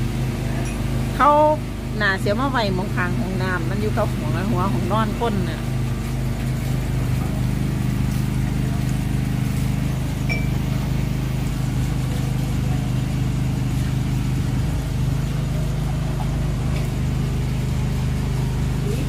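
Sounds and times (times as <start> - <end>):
generator running with low hum: 0.0 - 19.0.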